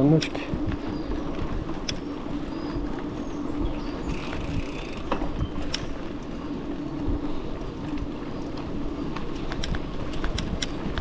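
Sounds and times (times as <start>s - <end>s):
bike clicks and rattles: 0.0s - 11.0s
bike tyre rumble on dirt: 0.0s - 11.0s.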